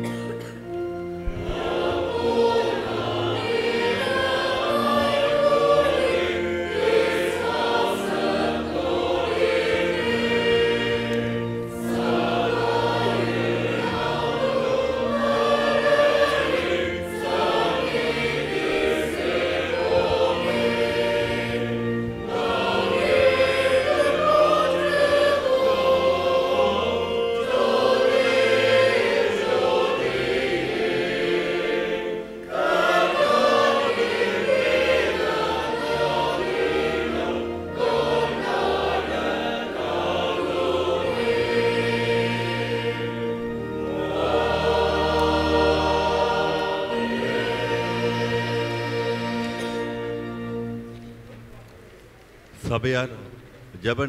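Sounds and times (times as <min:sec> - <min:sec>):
choir singing a hymn: 0:00.0 - 0:51.3
sustained low instrumental notes: 0:00.0 - 0:54.0.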